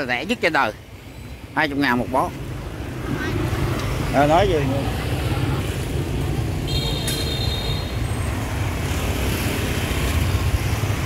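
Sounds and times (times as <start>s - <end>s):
motorbike engine and road rumble: 2.0s - 11.0s.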